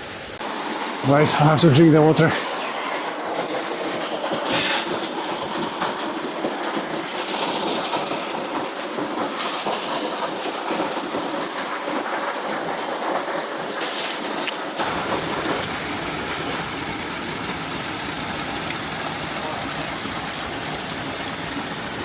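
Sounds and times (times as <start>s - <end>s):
waterfall rushing and splashing: 0.0s - 22.0s.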